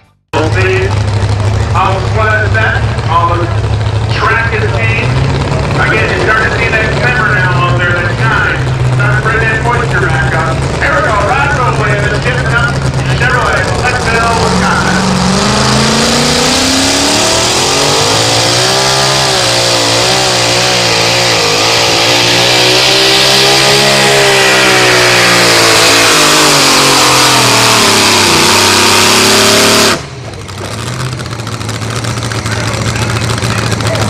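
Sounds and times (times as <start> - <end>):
truck engine at full throttle: 0.0 - 34.0
engine idling: 0.4 - 23.0, 23.6 - 34.0.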